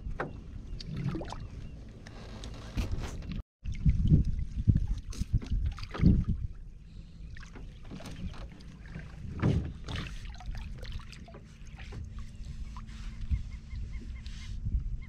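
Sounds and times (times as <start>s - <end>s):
water splashing and sloshing: 0.0s - 15.0s
wind rumbling on microphone: 0.0s - 15.0s.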